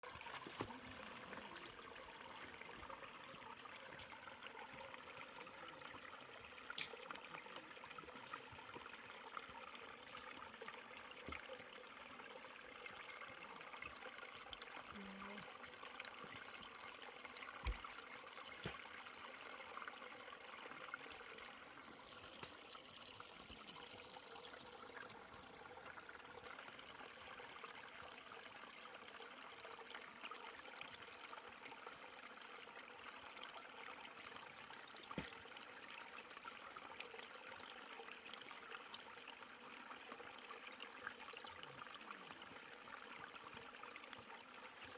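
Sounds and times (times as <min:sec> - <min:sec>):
stream running over rocks: 0:00.0 - 0:44.9.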